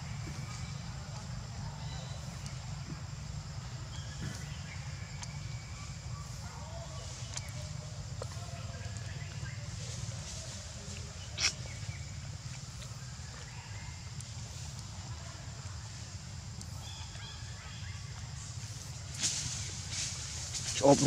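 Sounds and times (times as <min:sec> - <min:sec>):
faint chirping calls: 0:00.0 - 0:21.0
steady low hum: 0:00.0 - 0:21.0.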